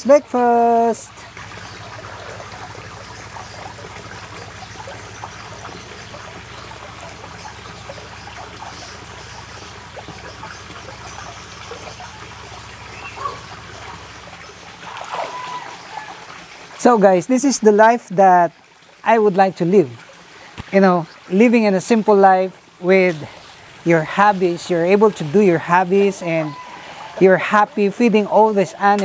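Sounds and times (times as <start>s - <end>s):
water trickling into pond: 0.0s - 29.0s.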